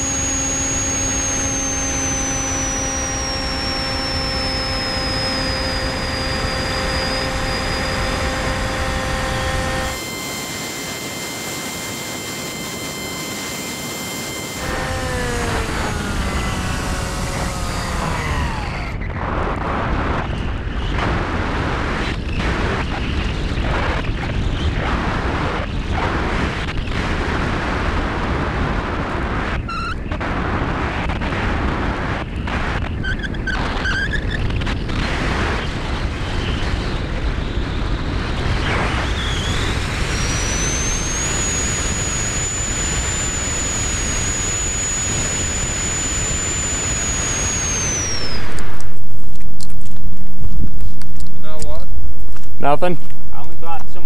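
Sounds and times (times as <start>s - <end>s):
electric motor propeller whine: 0.0s - 30.4s, 32.6s - 54.0s
gusty wind on camera: 0.0s - 54.0s.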